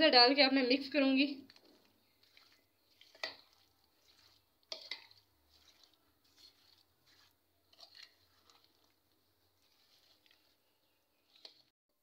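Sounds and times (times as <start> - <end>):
spoon stirring wet fruit: 0.3 - 11.7
spoon scraping bowl: 1.4 - 11.7.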